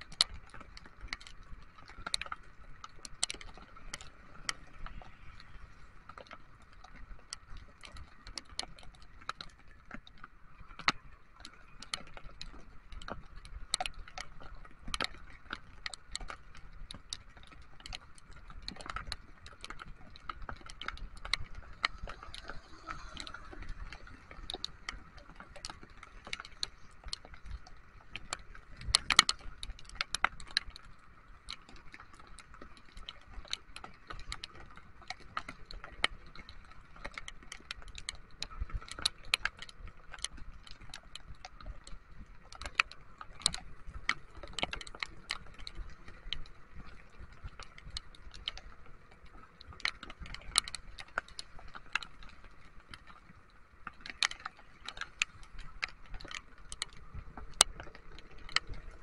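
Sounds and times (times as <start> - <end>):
raindrops tapping on windscreen: 0.0 - 59.0.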